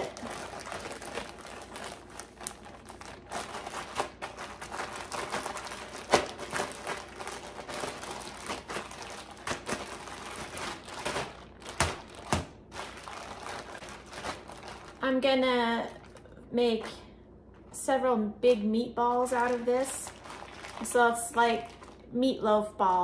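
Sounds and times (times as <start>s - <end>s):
plastic bag crinkling and squishing: 0.0s - 16.4s, 19.1s - 23.0s.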